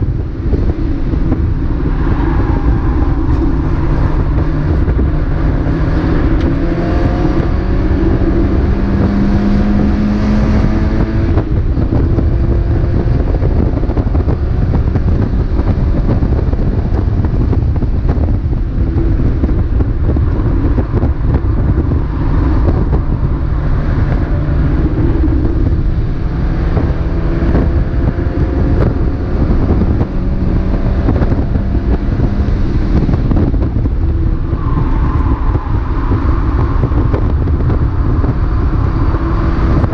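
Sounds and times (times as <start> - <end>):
race car engine revving: 0.0 - 39.9
wind and road noise: 0.0 - 39.9.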